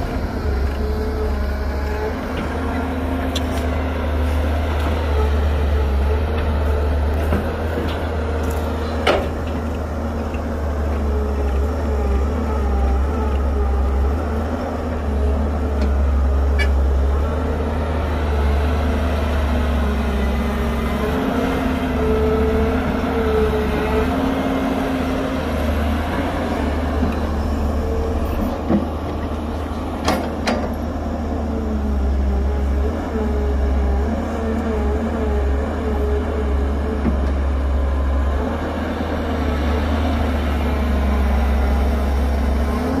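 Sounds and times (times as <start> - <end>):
excavator engine and hydraulics: 0.0 - 43.0.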